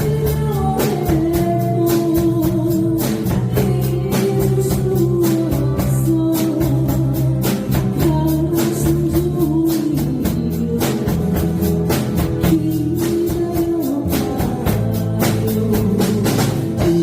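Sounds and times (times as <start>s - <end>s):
drums steady beat: 0.0s - 17.0s
live band playing: 0.0s - 17.0s
person singing: 0.0s - 17.0s.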